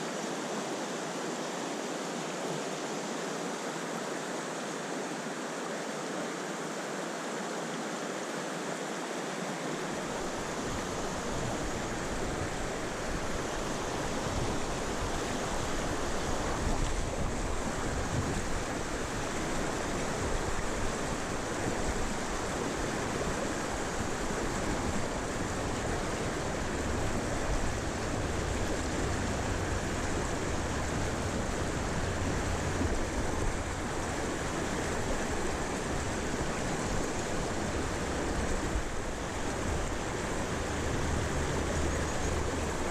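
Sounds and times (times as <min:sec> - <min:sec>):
stream water rushing: 0:00.0 - 0:42.9.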